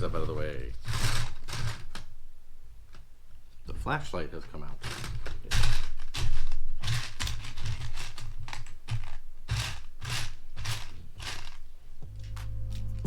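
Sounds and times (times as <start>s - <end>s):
plastic toy bricks clattering: 0.0s - 2.2s, 4.1s - 12.5s.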